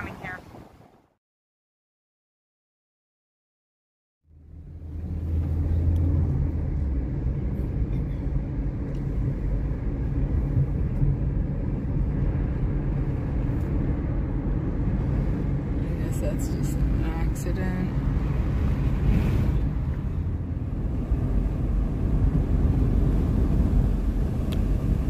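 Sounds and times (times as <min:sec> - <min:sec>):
car road and engine noise: 0:04.2 - 0:25.0.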